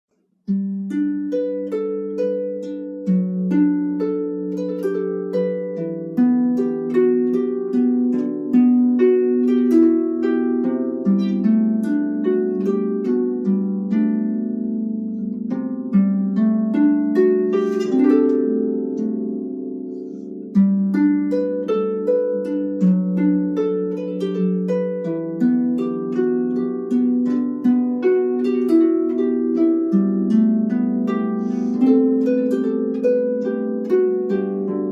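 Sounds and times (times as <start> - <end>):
solo harp playing: 0.4 - 34.9.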